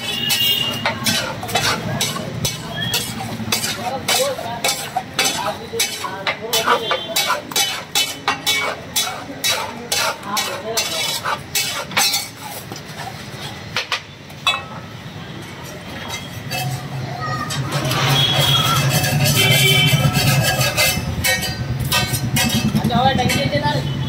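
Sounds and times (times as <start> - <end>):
metal spatula scraping iron pan: 0.0 - 13.8, 15.9 - 23.6.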